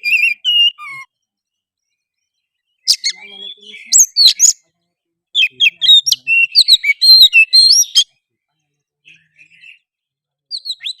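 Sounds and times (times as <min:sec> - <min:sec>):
bird singing whistled notes: 0:00.0 - 0:04.7, 0:05.3 - 0:08.2, 0:09.0 - 0:11.0.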